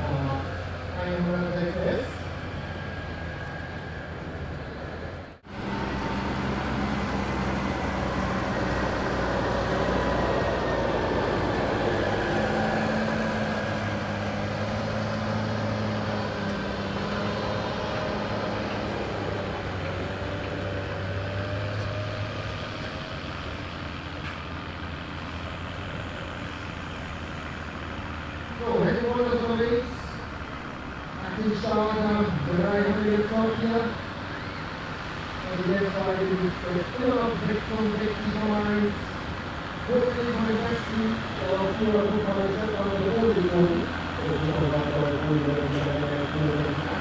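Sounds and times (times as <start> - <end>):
diesel tractor engines running: 0.0 - 47.0.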